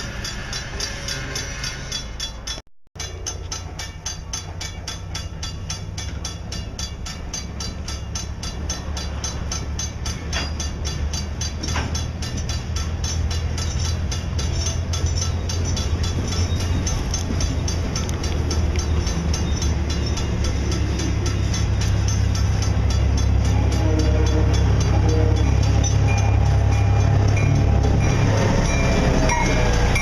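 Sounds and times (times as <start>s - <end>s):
freight car wheels on rails: 0.0s - 30.0s
diesel engine droning: 3.0s - 30.0s.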